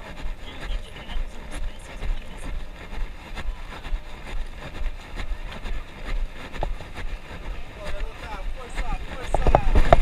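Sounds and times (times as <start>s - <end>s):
footsteps on asphalt: 0.0s - 10.0s
wind rumbling on microphone: 0.0s - 10.0s.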